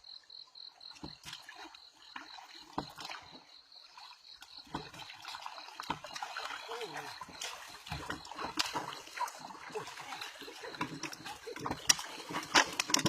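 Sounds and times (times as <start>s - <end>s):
faint water sounds: 0.0s - 13.0s.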